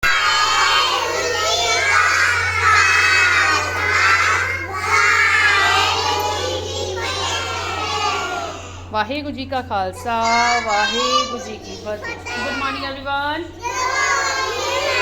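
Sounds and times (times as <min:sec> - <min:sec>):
children shouting and chattering: 0:00.0 - 0:09.0, 0:09.9 - 0:15.0
steady low hum: 0:00.0 - 0:15.0.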